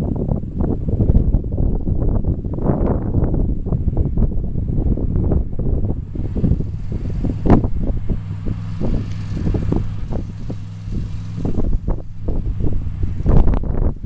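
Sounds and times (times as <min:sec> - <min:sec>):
truck engine running: 0:00.0 - 0:14.0
wind buffeting microphone: 0:00.0 - 0:14.0.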